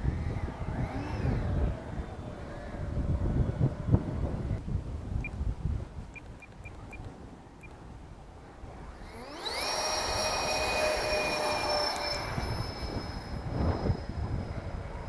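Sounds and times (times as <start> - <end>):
electric ducted fans whining: 0.0 - 15.0.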